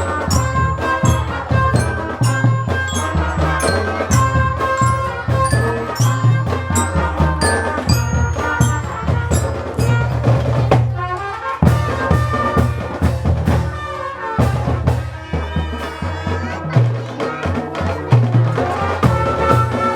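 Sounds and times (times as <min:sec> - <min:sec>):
brass melody: 0:00.0 - 0:16.8, 0:18.5 - 0:19.9
bass drum and percussion beats: 0:00.0 - 0:19.9.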